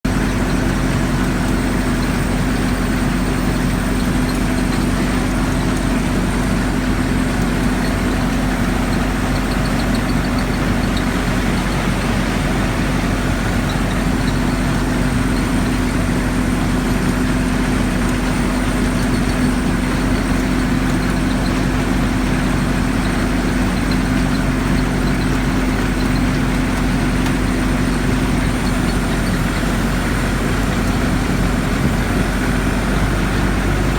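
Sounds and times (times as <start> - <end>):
harvester engine drone: 0.0 - 33.9.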